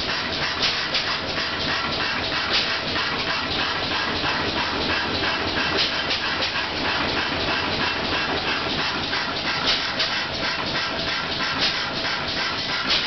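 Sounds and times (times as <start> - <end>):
gas engine hissing rhythmically: 0.0 - 13.0.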